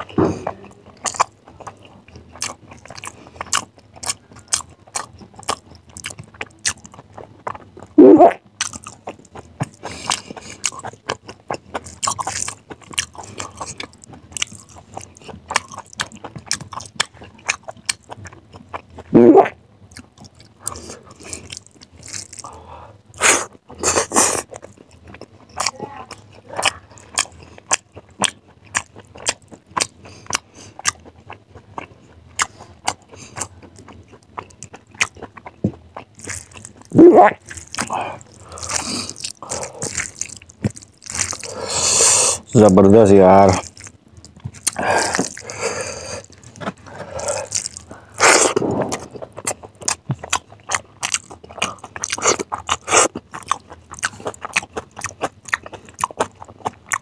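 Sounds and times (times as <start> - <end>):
crunchy bites: 0.0 - 18.8, 20.0 - 22.6, 26.6 - 57.0.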